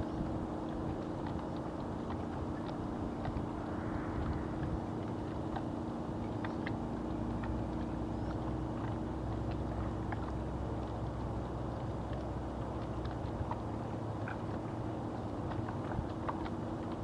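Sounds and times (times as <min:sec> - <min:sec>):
low motor hum: 0:00.0 - 0:17.0
small waves lapping: 0:00.0 - 0:17.0
water ticking: 0:00.0 - 0:17.0
wind: 0:00.0 - 0:17.0.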